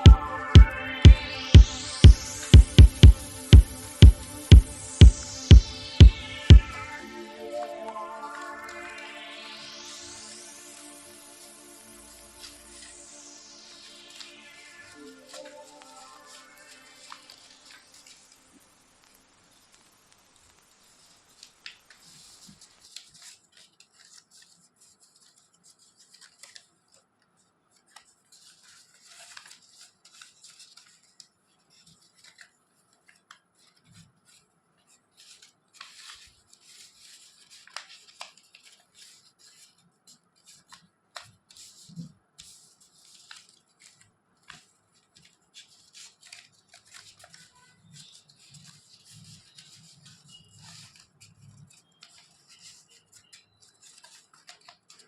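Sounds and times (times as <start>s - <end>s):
paper crinkling while folded: 6.9s - 55.0s.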